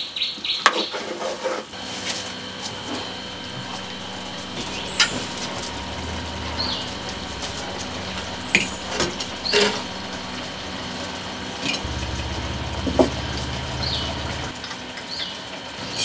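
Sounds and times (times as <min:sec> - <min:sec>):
low steady hum: 0:01.8 - 0:14.6.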